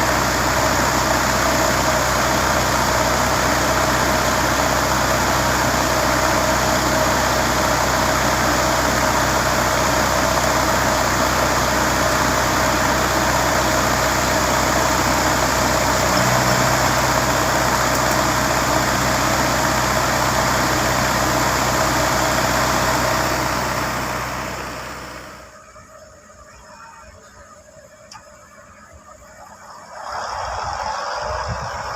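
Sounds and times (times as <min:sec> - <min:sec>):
machinery noise: 0:00.0 - 0:25.8, 0:26.4 - 0:31.9
heavy diesel engine running: 0:00.0 - 0:31.9.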